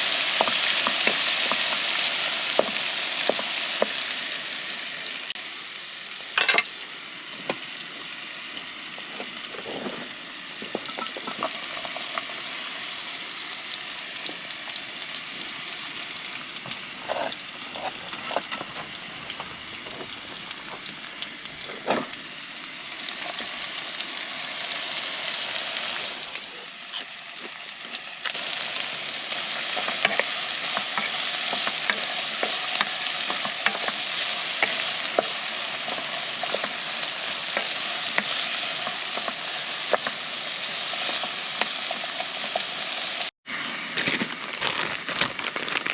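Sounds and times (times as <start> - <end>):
pork fat sizzling in frying pan: 0.0 - 45.9.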